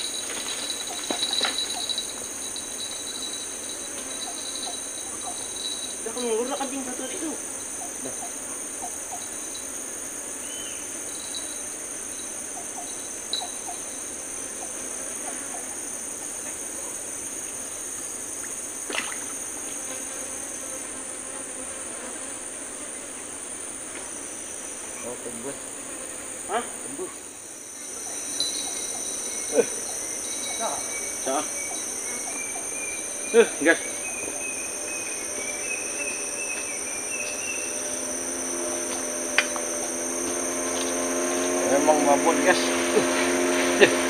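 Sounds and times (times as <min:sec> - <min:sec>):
tropical forest insects droning: 0:00.0 - 0:44.0.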